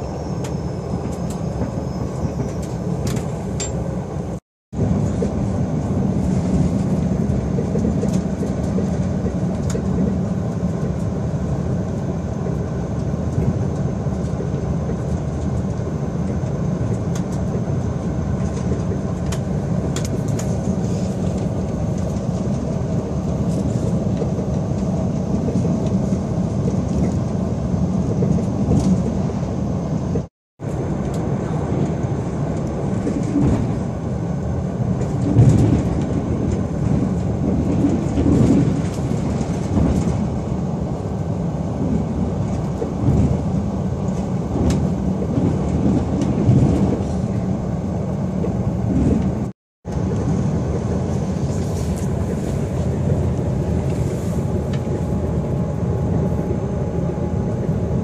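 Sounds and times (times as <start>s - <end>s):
passenger train running: 0.0s - 58.0s.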